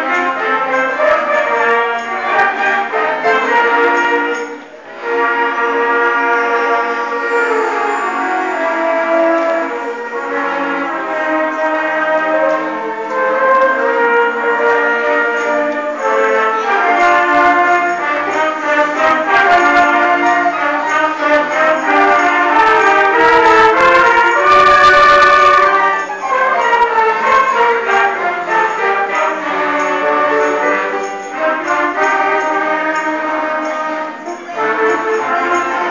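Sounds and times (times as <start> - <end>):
brass band playing: 0.0 - 35.9.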